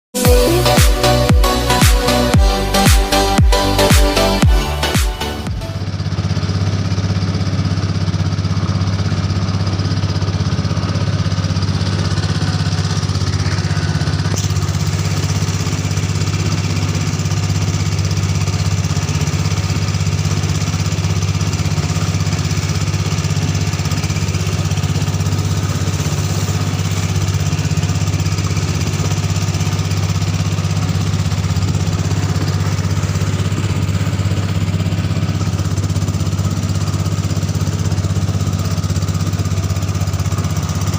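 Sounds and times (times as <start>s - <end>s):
boat engine droning: 0.2s - 40.9s.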